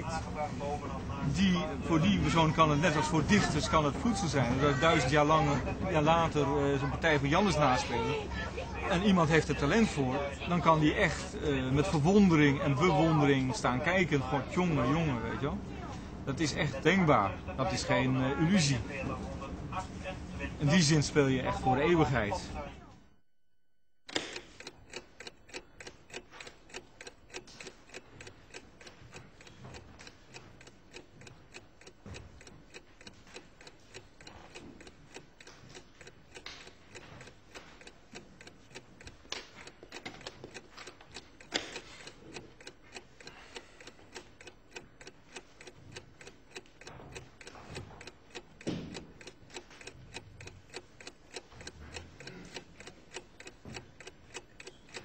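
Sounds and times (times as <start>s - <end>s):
clock ticking: 0.0s - 22.6s, 24.0s - 55.0s.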